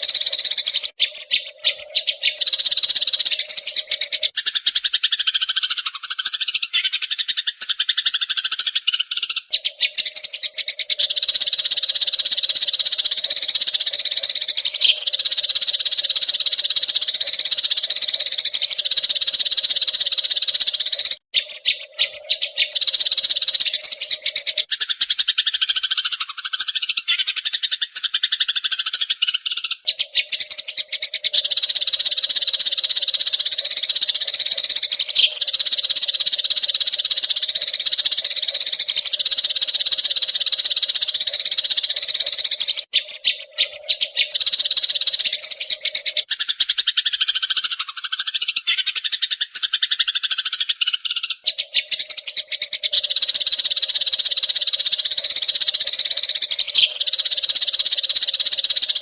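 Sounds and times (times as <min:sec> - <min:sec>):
sparrows chattering and chirping: 0:00.0 - 0:59.0.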